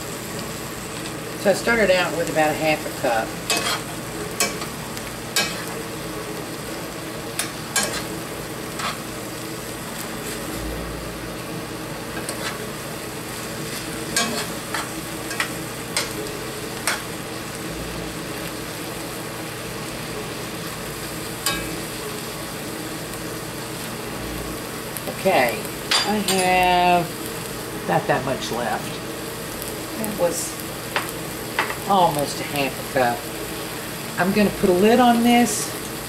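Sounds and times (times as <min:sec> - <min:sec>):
stuffing sizzling in a skillet: 0:00.0 - 0:36.0.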